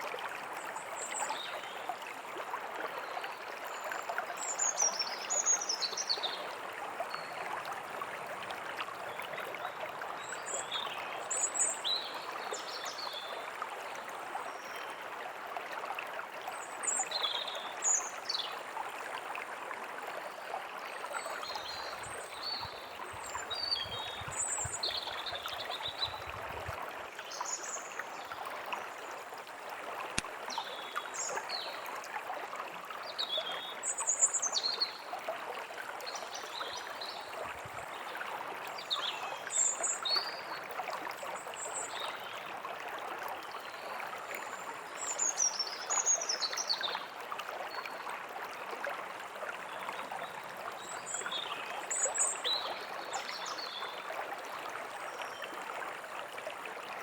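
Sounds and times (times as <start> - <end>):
stream running: 0.0 - 57.0.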